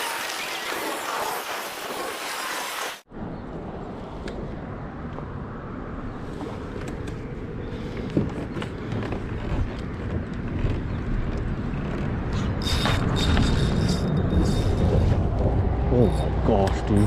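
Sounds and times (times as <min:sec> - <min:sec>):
wind rumbling on microphone: 0:03.1 - 0:17.0.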